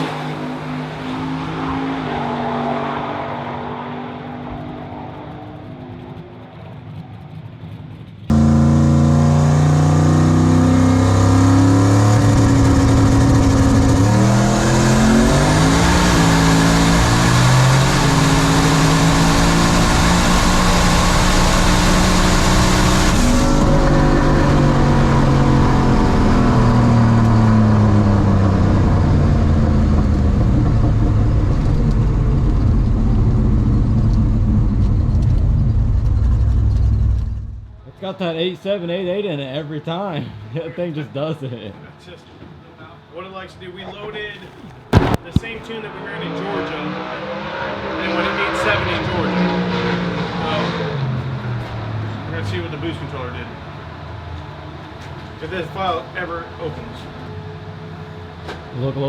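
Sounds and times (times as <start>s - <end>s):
drag car engine at full throttle: 0.0s - 37.8s, 44.7s - 59.0s.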